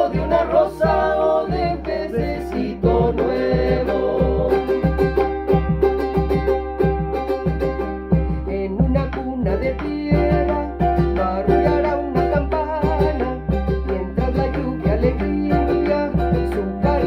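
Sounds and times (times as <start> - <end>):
people singing: 0.0 - 5.3, 8.6 - 17.0
strummed string instruments: 0.0 - 17.0.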